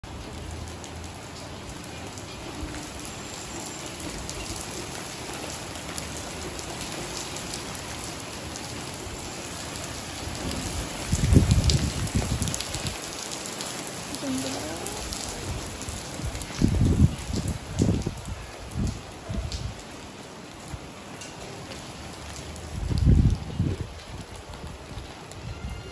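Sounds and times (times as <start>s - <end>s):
rain pattering on concrete: 0.0s - 25.9s.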